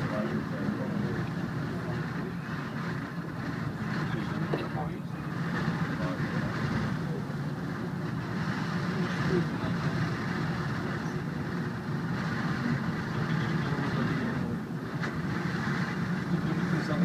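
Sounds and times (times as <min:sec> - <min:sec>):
cable car running noise: 0:00.0 - 0:17.0.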